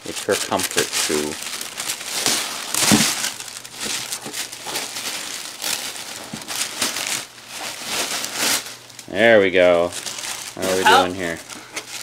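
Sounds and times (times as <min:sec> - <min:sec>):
wrapping paper tearing: 0:00.0 - 0:12.0.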